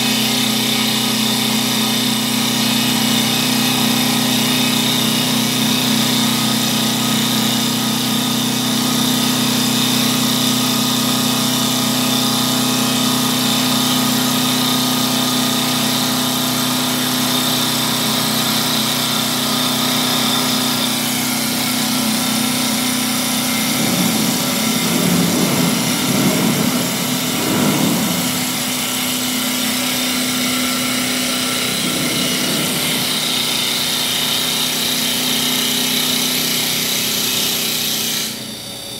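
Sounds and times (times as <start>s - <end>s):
cutters working wood: 0.0s - 38.6s
lathe motor hum with whine: 0.0s - 38.9s.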